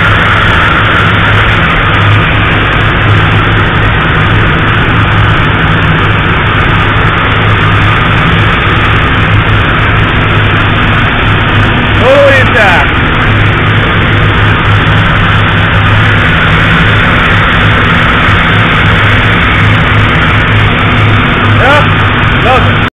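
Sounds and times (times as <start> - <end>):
low machinery hum: 0.0 - 22.9
steam hissing loudly: 0.0 - 22.9.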